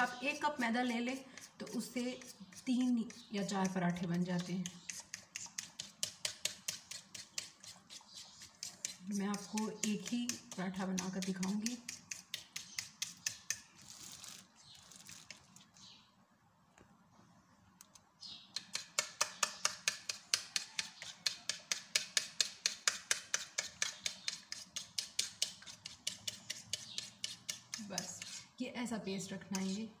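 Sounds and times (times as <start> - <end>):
fork beating batter in a bowl: 0.0 - 13.8, 18.5 - 28.6, 29.2 - 29.9.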